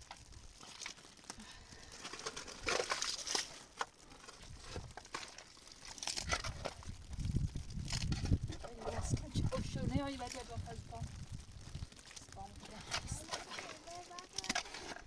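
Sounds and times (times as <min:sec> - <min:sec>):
material crinkling and crunching: 0:00.0 - 0:15.0.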